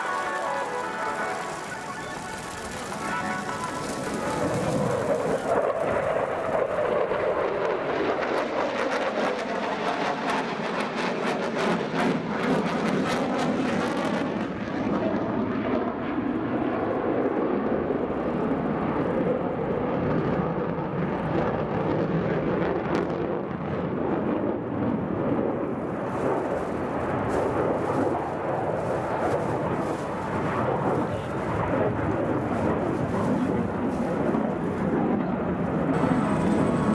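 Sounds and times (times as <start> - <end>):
jet engines roaring in flight: 0.0 - 36.9.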